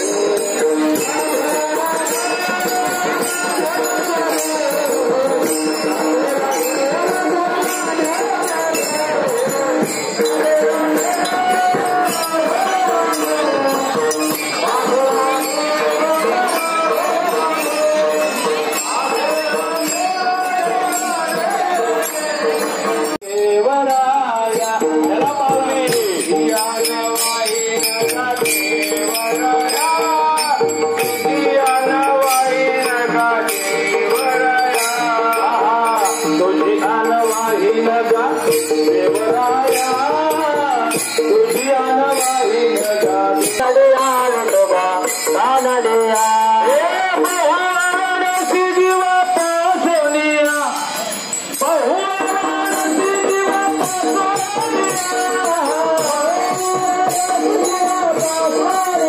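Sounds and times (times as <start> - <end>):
hand cymbals jingling: 0.0 - 59.0
voices singing: 0.0 - 59.0.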